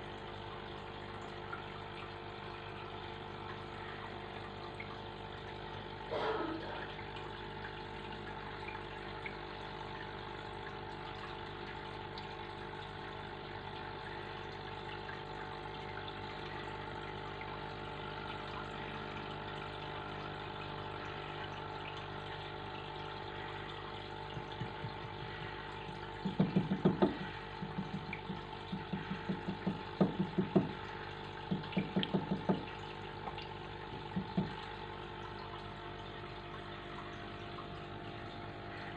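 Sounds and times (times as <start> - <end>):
aquarium filter pump humming: 0.0 - 38.9
water trickling: 0.0 - 38.9.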